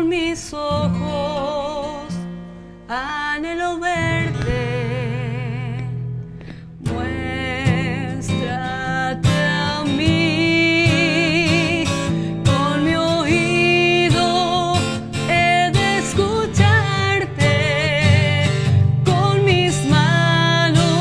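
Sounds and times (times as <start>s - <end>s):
woman singing with vibrato: 0.0s - 6.1s, 6.8s - 21.0s
acoustic guitar: 0.0s - 21.0s.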